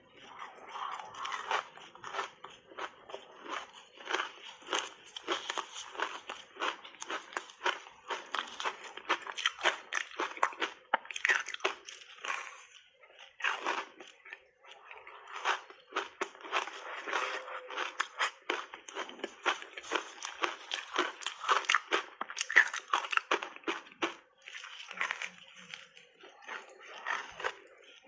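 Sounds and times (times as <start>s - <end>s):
ice crunching while chewed: 0.0s - 28.0s.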